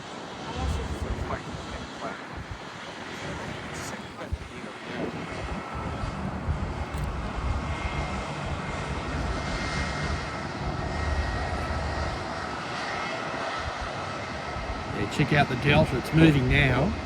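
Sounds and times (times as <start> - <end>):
jet engines rumbling with whine: 0.0 - 17.0.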